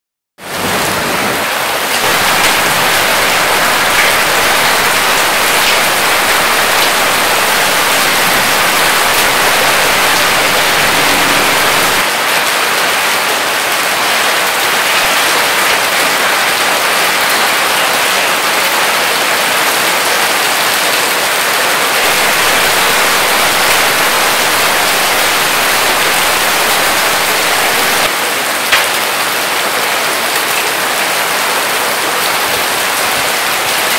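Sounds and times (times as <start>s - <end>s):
hail and heavy rain on stone: 0.5s - 33.9s.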